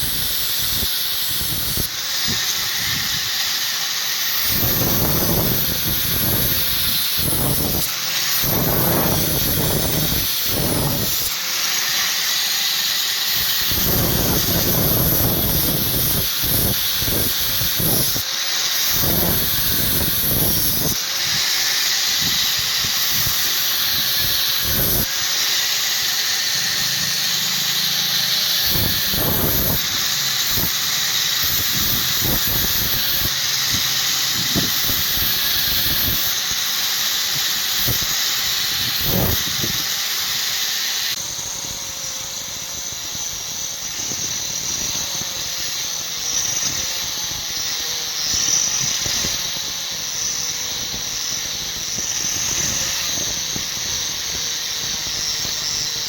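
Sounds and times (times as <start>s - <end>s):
power grinder grinding steel: 0.0s - 56.0s.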